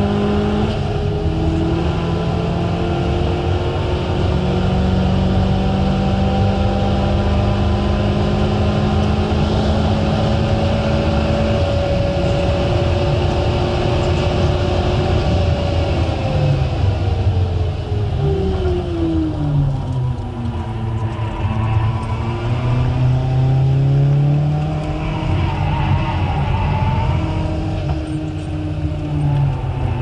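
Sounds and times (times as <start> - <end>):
car engine at full throttle: 0.0 - 30.0
road and tyre rumble: 0.0 - 30.0.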